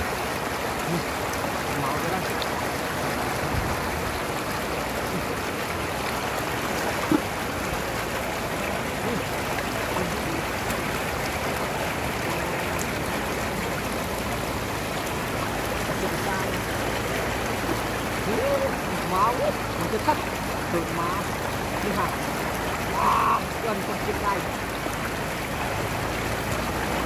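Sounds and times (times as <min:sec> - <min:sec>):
floodwater rushing over road: 0:00.0 - 0:27.0.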